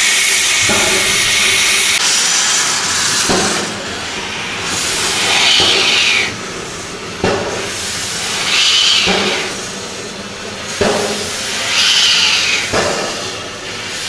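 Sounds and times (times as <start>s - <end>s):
steam hissing: 0.0s - 14.0s
steam locomotive chuffing: 0.0s - 14.0s.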